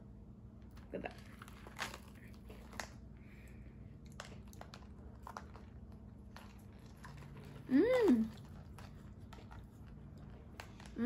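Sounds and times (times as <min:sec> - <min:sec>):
wet chewing and slurping: 0:00.7 - 0:11.0.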